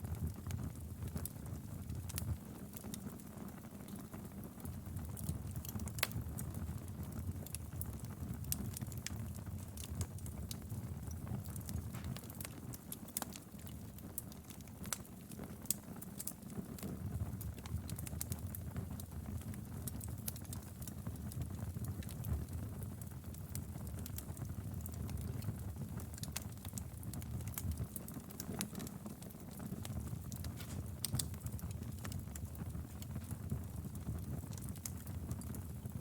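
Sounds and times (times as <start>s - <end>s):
firewood crackling and popping: 0.0s - 36.0s
low rumble of flames: 0.0s - 36.0s.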